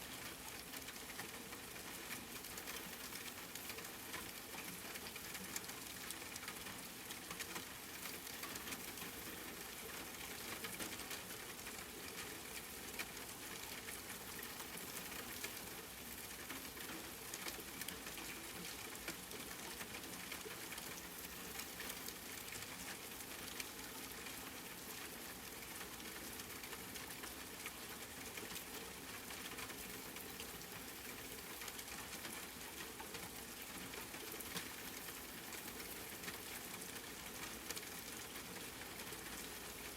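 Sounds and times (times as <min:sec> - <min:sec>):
steady rain pattering: 0:00.0 - 0:39.9
sharp raindrop ticks: 0:00.1 - 0:39.5.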